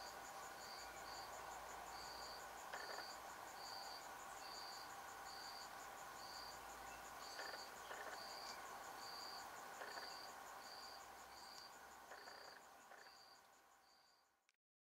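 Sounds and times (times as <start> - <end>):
insect pulsing trill: 1.9 - 14.3.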